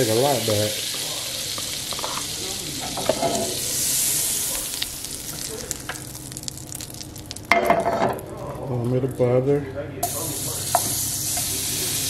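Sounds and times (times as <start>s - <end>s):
butter sizzling in a pan: 0.0s - 7.9s, 10.0s - 12.0s.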